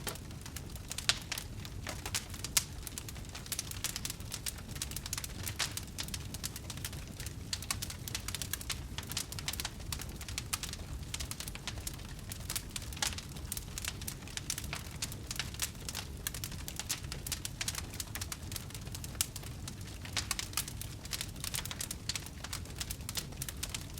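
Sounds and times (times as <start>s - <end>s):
fireplace fire crackling: 0.0s - 23.9s.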